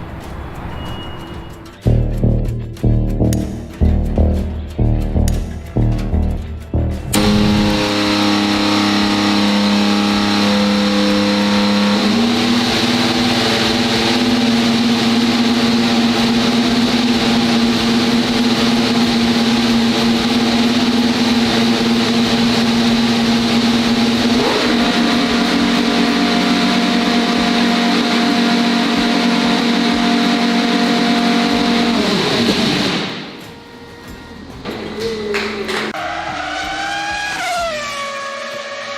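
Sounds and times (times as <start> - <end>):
racing car engine high pitch: 1.8 - 38.9.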